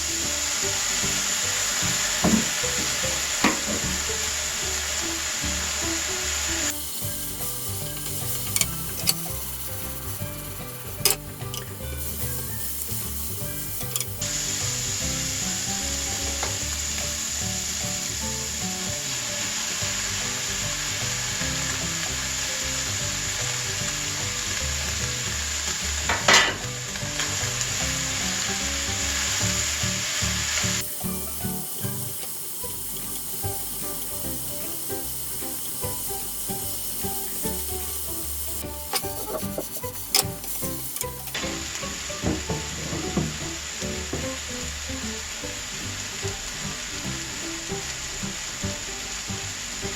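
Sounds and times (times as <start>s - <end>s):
food sizzling in hot oil: 0.0s - 49.9s.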